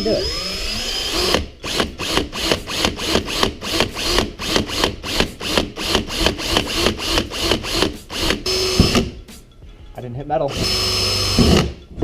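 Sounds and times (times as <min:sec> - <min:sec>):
power drill boring into plastic: 0:00.0 - 0:09.0, 0:10.5 - 0:11.8.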